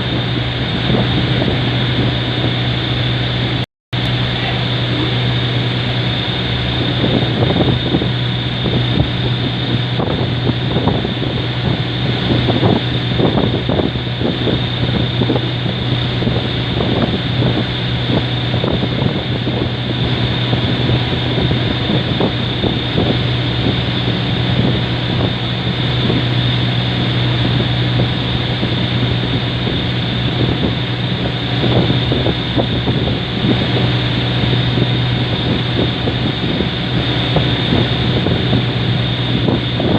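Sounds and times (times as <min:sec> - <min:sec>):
boat engine droning: 0:00.0 - 0:39.9
wind buffeting microphone: 0:00.0 - 0:39.9.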